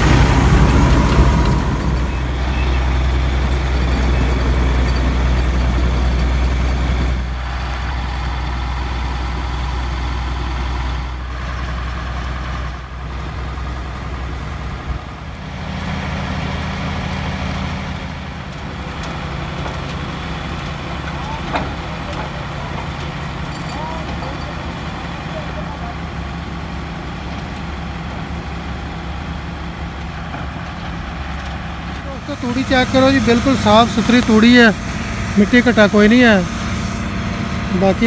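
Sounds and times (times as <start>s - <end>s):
harvester machinery droning: 0.0s - 38.0s.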